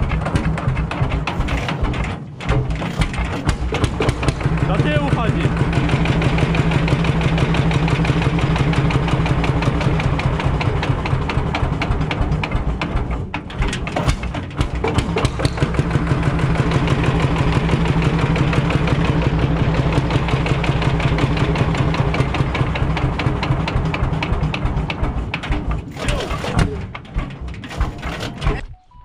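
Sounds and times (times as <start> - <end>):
two-stroke engine running: 0.0 - 28.6.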